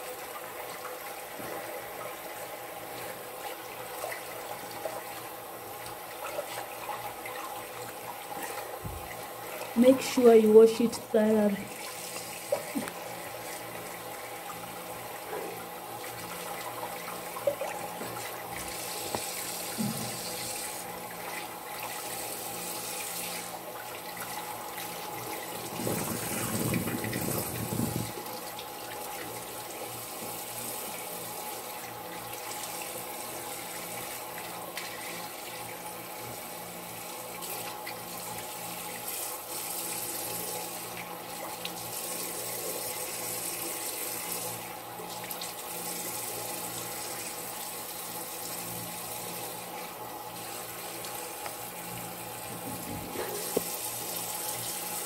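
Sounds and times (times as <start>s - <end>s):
tap water running into sink: 0.0s - 55.0s.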